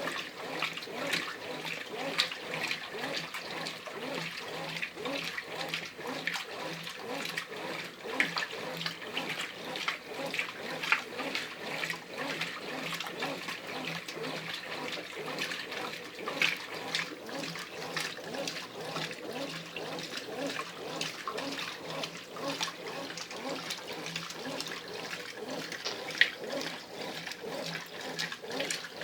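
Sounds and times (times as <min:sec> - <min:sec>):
washing machine water sloshing: 0:00.0 - 0:29.0.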